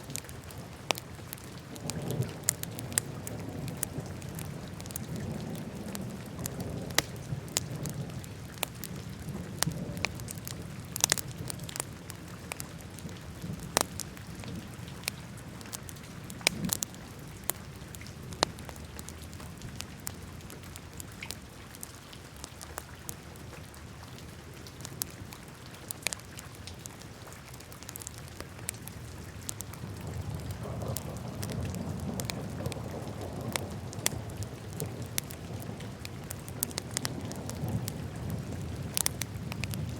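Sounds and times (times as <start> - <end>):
low rumble of flames: 0.0 - 23.2, 24.7 - 39.9
wood fire crackling and popping: 0.0 - 23.2, 24.6 - 39.9.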